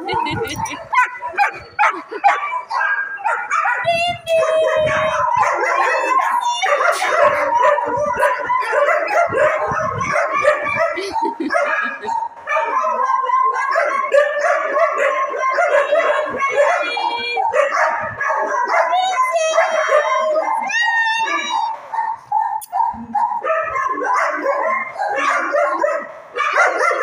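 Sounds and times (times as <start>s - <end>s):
many dogs barking: 0.0s - 27.0s.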